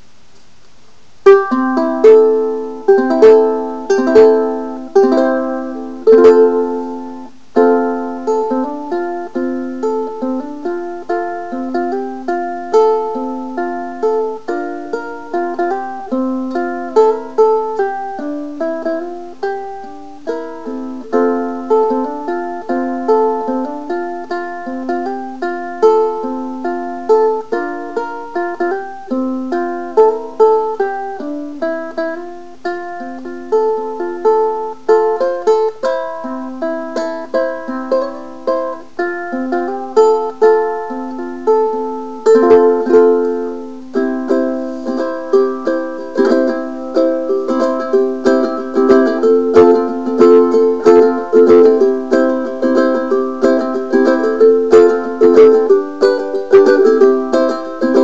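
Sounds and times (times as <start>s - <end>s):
plucked ukulele melody: 1.2s - 58.0s.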